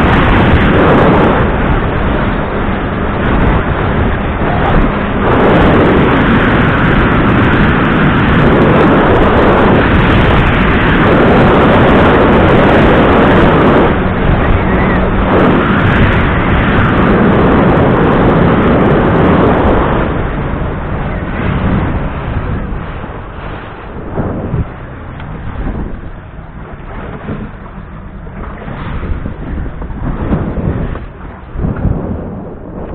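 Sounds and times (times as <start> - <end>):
faint boat engine hum: 0.0 - 32.9
rushing wind and water: 0.0 - 32.9.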